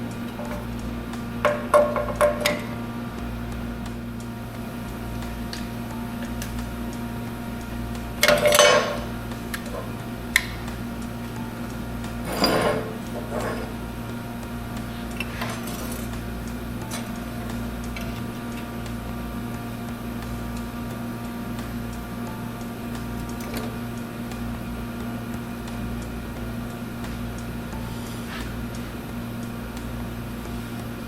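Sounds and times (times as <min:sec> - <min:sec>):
steady hum of constant tones: 0:00.0 - 0:31.0.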